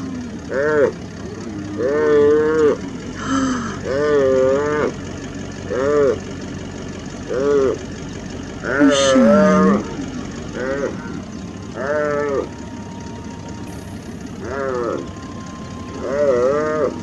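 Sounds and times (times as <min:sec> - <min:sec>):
antelope bawling in distress: 0:00.0 - 0:06.4, 0:07.2 - 0:08.0, 0:08.6 - 0:13.2, 0:14.3 - 0:17.0
low engine hum: 0:00.0 - 0:17.0.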